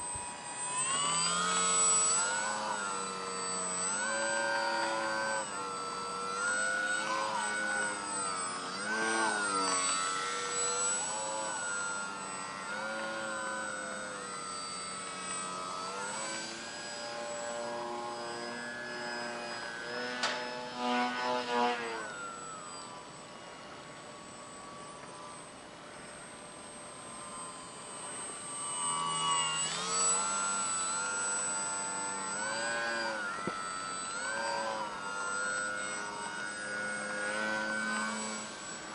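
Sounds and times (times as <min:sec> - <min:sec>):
model plane motor whine: 0:00.0 - 0:38.9
thin steady high tone: 0:00.0 - 0:38.9.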